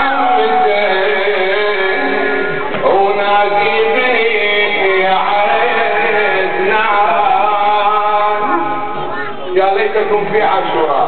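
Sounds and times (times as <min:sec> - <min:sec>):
man chanting through microphone: 0:00.0 - 0:11.0.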